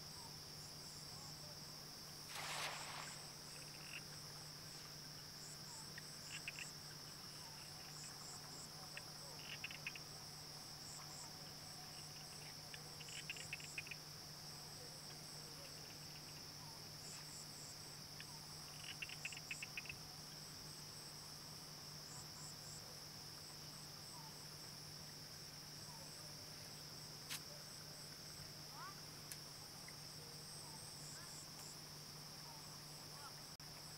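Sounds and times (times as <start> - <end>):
crickets and insects chirping: 0.0 - 33.9.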